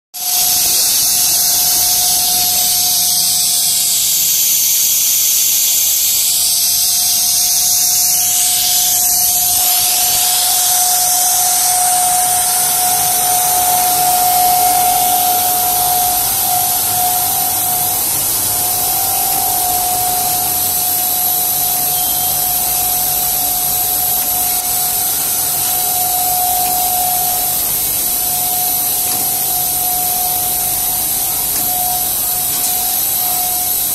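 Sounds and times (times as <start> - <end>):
constant machine whine: 0.2 - 33.9
machine hiss and hum: 0.2 - 33.9.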